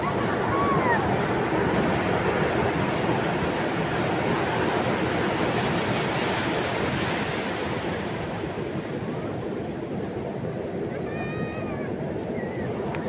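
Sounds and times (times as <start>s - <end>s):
ocean waves breaking: 0.0s - 13.0s
wind on microphone: 0.0s - 13.0s.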